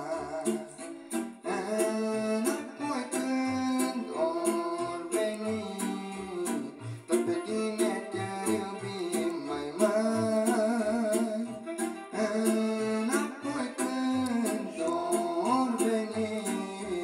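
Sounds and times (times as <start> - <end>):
backing track with plucked strings: 0.0 - 17.0
man singing into a microphone: 0.0 - 17.0.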